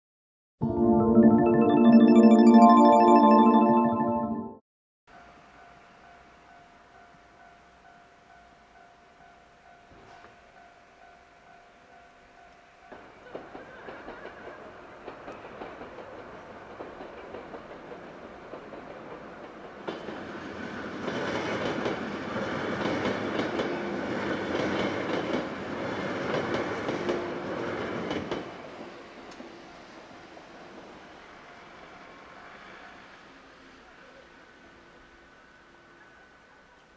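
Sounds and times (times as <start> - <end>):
electric train passing: 5.2 - 36.6.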